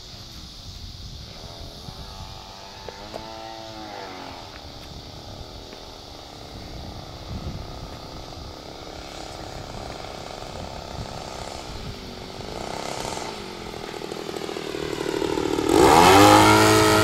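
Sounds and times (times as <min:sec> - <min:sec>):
model airplane motor drone: 0:01.0 - 0:17.0.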